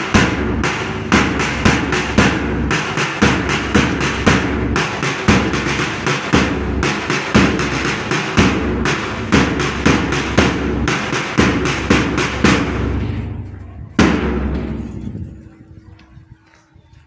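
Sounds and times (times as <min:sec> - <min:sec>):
steady drum beat: 0:00.0 - 0:15.4.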